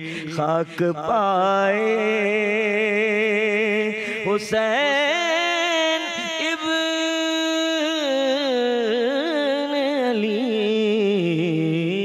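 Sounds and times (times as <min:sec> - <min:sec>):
man singing devotional verse: 0:00.0 - 0:12.0.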